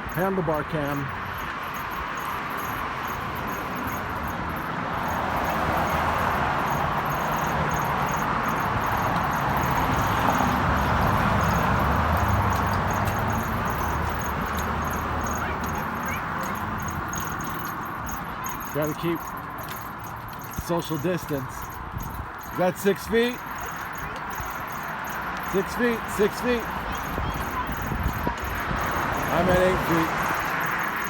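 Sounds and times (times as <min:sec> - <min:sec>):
wind and tyre noise: 0:00.0 - 0:31.0.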